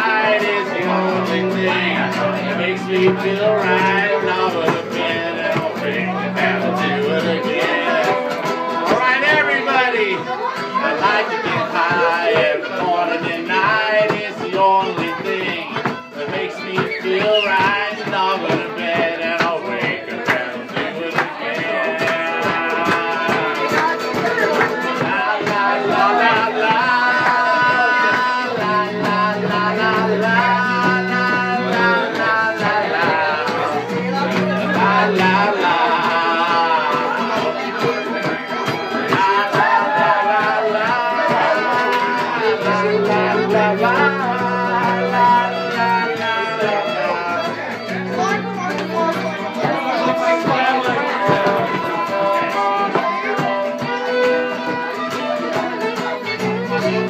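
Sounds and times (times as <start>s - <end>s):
guitar music with low notes: 0.0s - 57.0s
voices: 0.0s - 57.0s.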